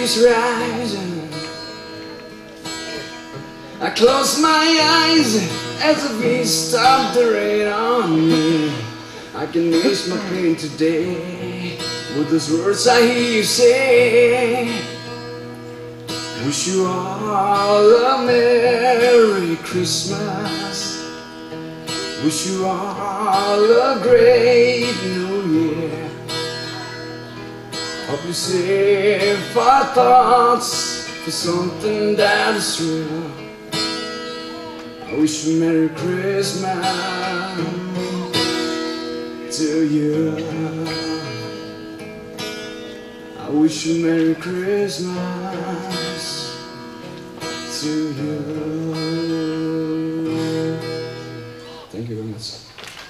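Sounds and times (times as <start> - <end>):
man singing: 0.0 - 15.1, 16.2 - 41.9, 42.7 - 52.7
acoustic guitar strumming: 0.0 - 53.0.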